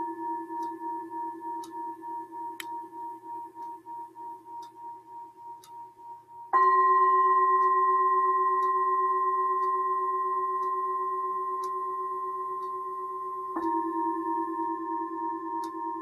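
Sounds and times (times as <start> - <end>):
singing bowls ringing: 0.0 - 16.0.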